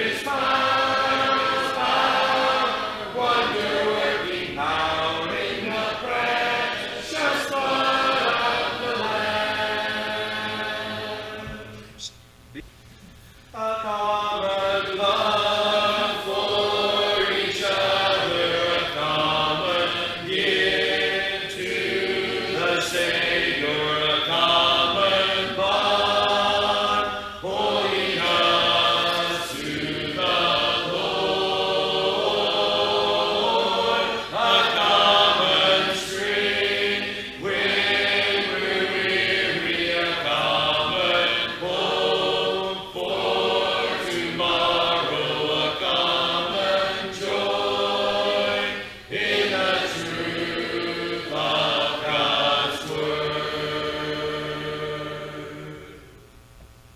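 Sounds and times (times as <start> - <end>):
congregation singing a hymn: 0.0 - 12.0, 13.5 - 56.3.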